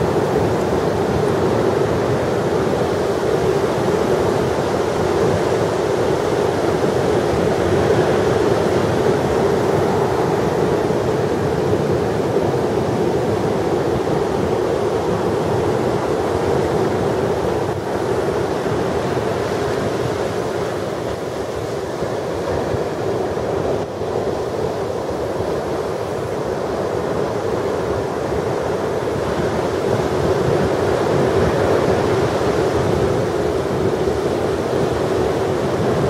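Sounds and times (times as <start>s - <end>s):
surf waves breaking: 0.0s - 36.0s
wind on microphone: 0.0s - 36.0s.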